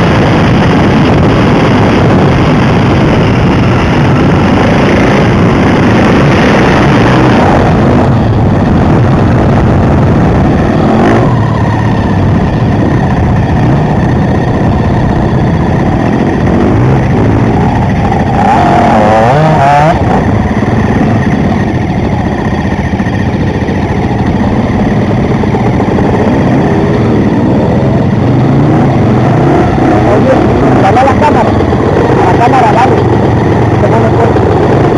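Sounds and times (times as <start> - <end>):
dense steady rushing noise: 0.0 - 34.9
motorcycle engine running: 0.0 - 34.9.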